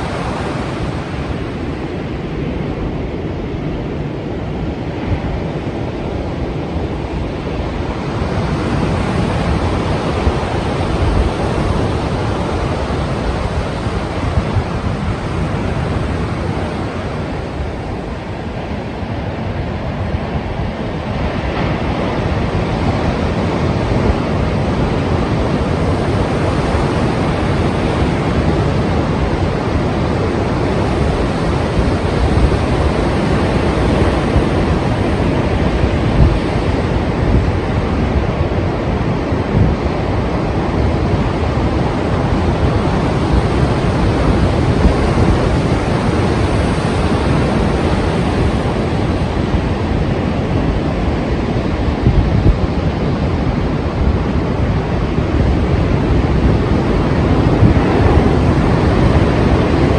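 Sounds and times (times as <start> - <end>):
ocean waves breaking: 0.0 - 59.9
wind: 0.0 - 59.9.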